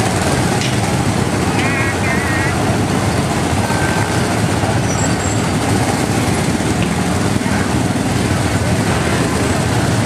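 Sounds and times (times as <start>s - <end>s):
ride car rumbling: 0.0s - 10.0s.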